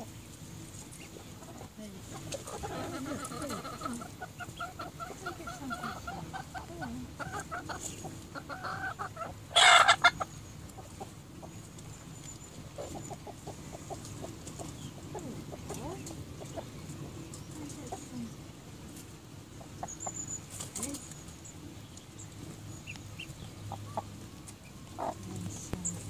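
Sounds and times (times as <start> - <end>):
hens clucking: 0.0 - 26.0.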